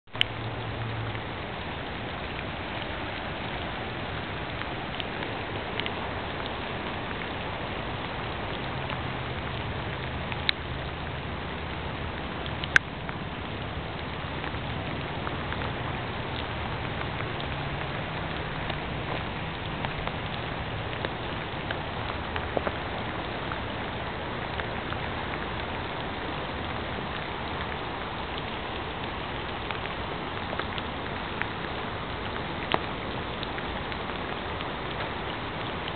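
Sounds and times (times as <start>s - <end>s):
rain falling on water: 0.0s - 35.9s
raindrops ticking close by: 0.0s - 35.9s.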